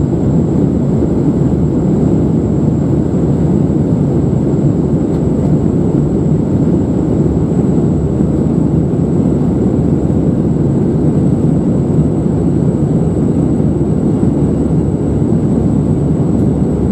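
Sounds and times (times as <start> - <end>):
airliner cabin engine rumble: 0.0 - 16.9.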